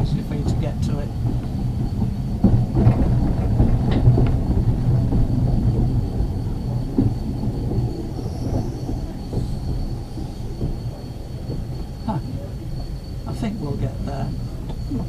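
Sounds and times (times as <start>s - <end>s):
tram knocks: 0.0s - 15.0s
tram rumbling along track: 0.0s - 15.0s.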